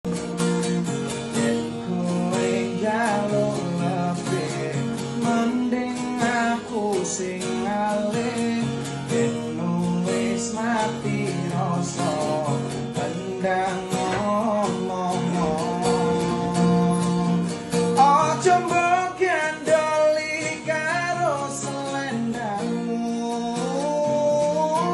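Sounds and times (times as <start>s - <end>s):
person singing: 0.0s - 24.9s
strummed acoustic guitar: 0.0s - 24.9s.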